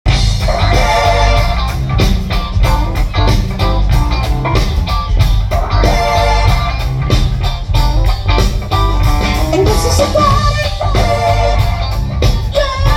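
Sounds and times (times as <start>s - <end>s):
rock music with guitar and drums: 0.0s - 12.9s.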